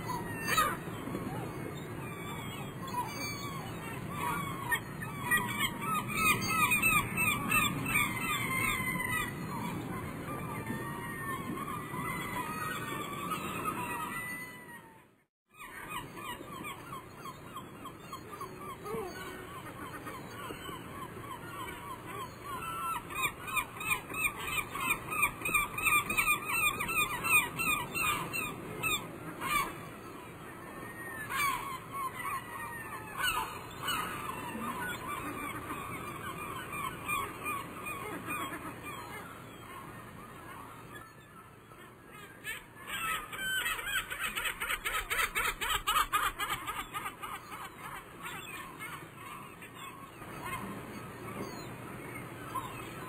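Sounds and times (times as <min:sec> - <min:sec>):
flock of birds calling: 0:00.0 - 0:53.0.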